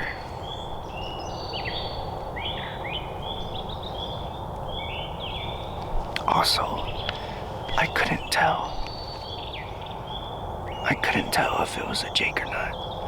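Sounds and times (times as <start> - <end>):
low background hiss: 0.0 - 13.0
songbirds singing: 0.0 - 13.0.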